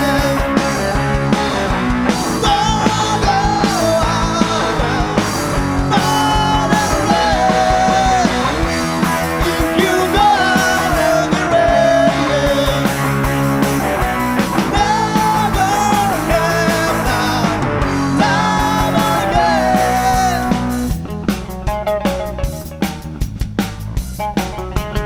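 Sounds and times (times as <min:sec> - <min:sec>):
rock band playing live: 0:00.0 - 0:25.0
steady drum beat: 0:00.0 - 0:25.0.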